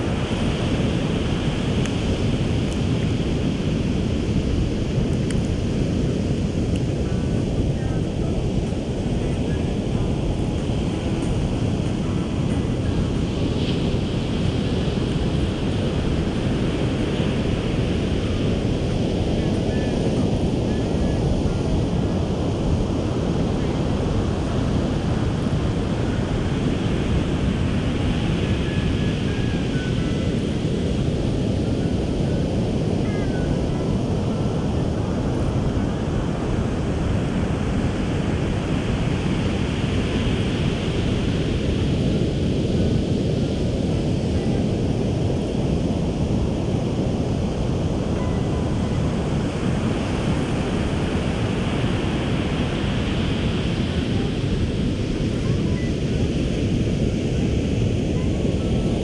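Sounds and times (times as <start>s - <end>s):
surf breaking on a beach: 0.0s - 59.0s
wind buffeting the microphone: 0.0s - 59.0s.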